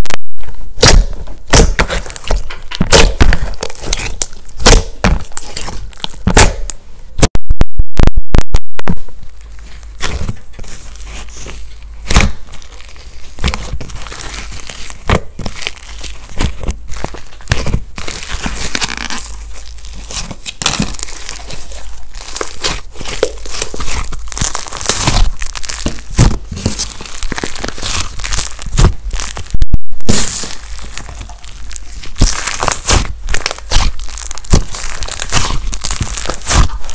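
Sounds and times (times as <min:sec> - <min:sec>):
slime squishing and crackling: 0:00.4 - 0:06.8, 0:09.0 - 0:36.9.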